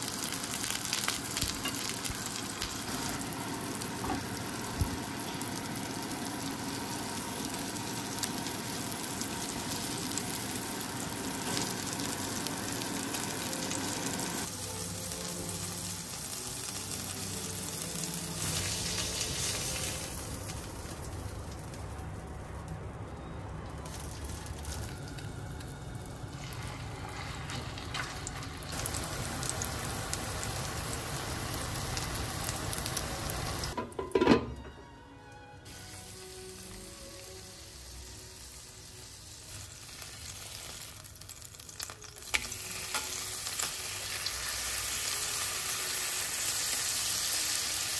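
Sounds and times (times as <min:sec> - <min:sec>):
patty sizzling in fat: 0:00.0 - 0:21.9, 0:23.8 - 0:33.8, 0:35.7 - 0:47.9.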